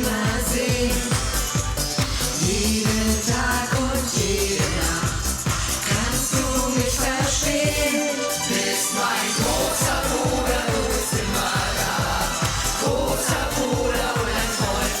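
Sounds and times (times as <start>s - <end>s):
deep falling bass strokes: 0.0s - 7.9s, 9.4s - 15.0s
pop dance music: 0.0s - 15.0s.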